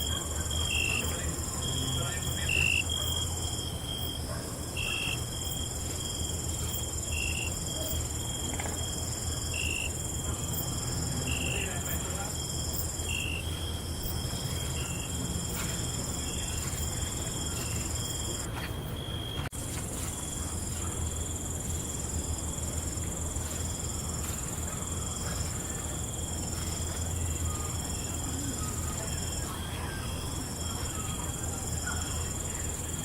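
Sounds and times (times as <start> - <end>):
insects trilling: 0.0 - 19.4, 20.1 - 33.0.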